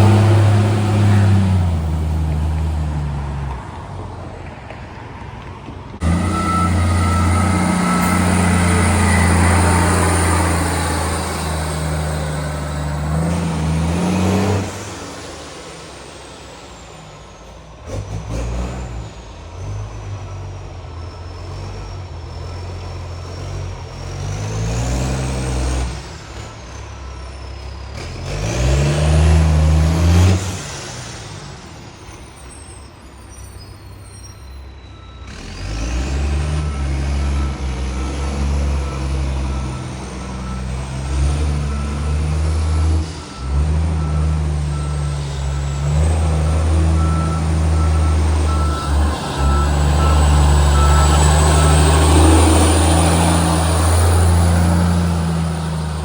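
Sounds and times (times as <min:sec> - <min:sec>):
diesel engine revving: 0:00.0 - 0:03.8, 0:06.0 - 0:32.6, 0:35.2 - 0:56.0.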